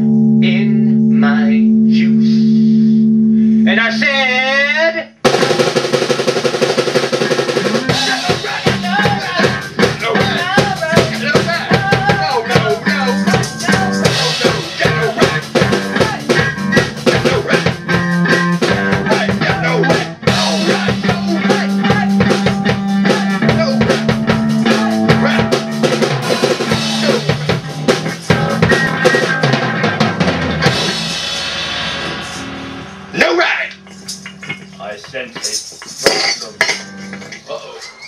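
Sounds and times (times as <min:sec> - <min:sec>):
pounding drum beat: 0:05.2 - 0:37.4
rock band playing: 0:05.2 - 0:37.6.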